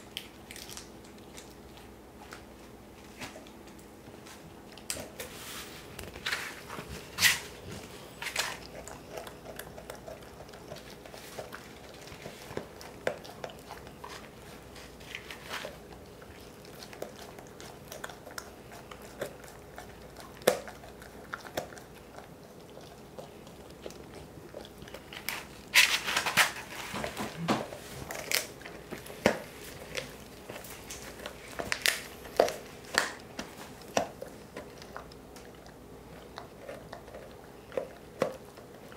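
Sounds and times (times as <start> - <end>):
dog gnawing crunchy chew: 0.0 - 38.9.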